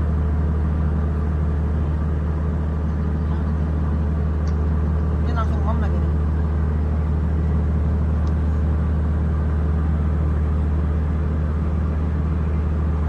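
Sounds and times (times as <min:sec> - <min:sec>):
large engine droning: 0:00.0 - 0:13.0.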